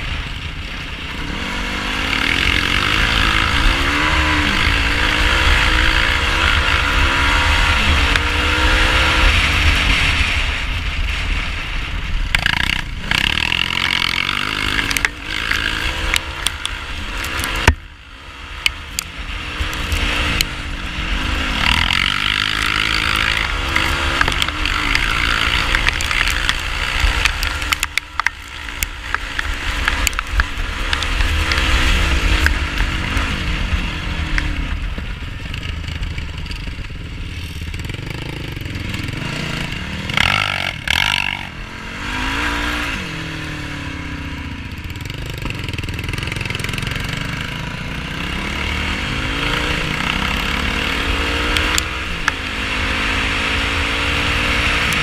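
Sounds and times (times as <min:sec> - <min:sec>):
quad engine revving: 0:01.1 - 0:10.4, 0:12.4 - 0:17.8, 0:18.6 - 0:55.0.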